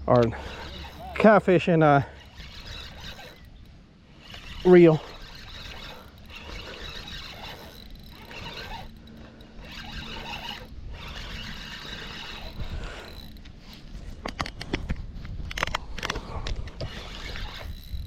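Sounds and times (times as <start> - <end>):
fishing reel whining: 0.2 - 14.6, 15.5 - 18.0.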